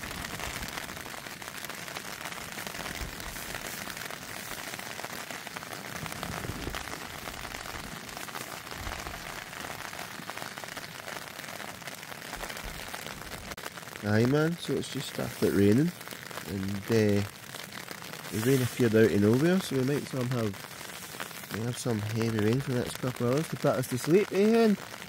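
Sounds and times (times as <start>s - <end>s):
rain pattering on tent fabric: 0.0s - 25.0s.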